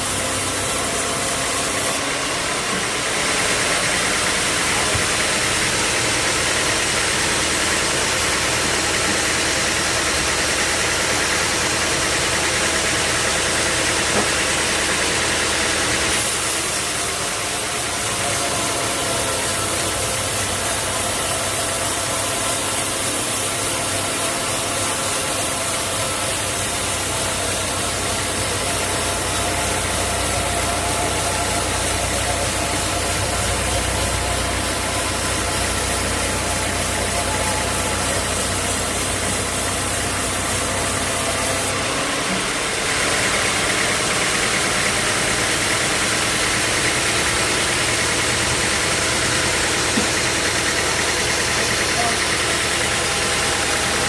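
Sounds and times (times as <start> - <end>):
high-pitched machine noise: 0.0 - 54.0
sawmill machinery humming: 0.0 - 54.0.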